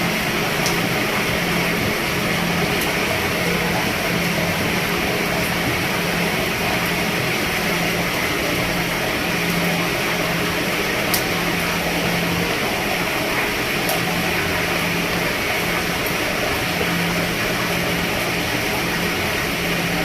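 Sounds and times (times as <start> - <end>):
rain on a roof: 0.0 - 20.0.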